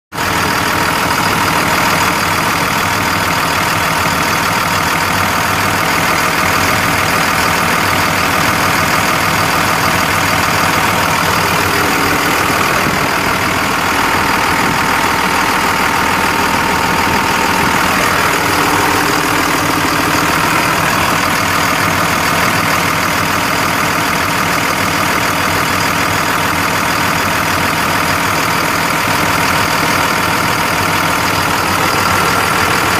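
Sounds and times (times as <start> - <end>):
diesel truck engine idling: 0.1 - 32.9.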